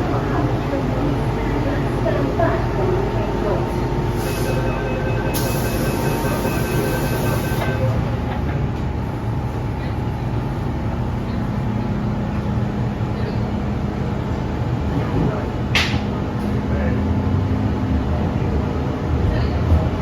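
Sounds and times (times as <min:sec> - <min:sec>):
train wheels and motors rumbling: 0:00.0 - 0:20.0.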